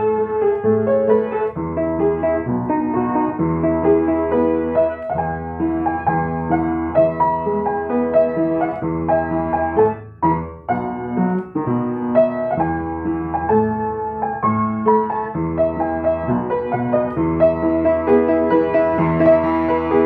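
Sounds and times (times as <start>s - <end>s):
solo piano melody: 0.0s - 20.0s.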